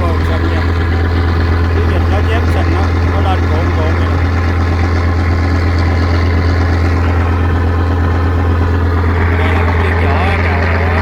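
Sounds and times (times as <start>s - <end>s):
large engine humming: 0.0s - 11.0s.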